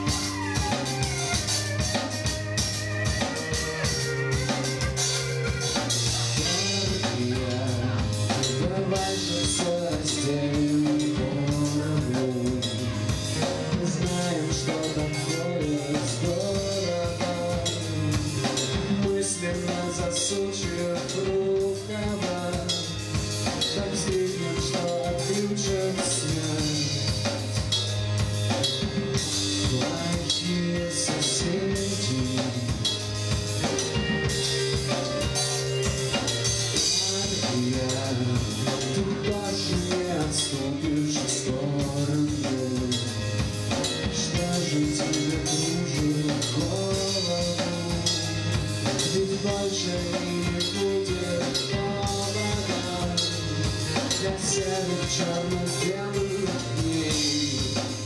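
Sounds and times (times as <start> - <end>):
drum kit beat: 0.0 - 58.0
live rock band playing: 0.0 - 58.0
man singing: 0.0 - 58.0.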